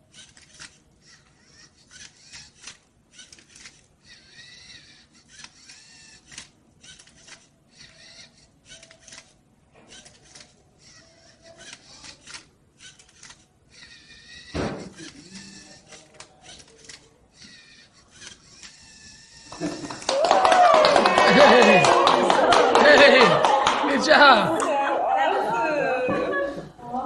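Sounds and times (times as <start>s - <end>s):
small electric motors whirring: 0.0s - 21.8s.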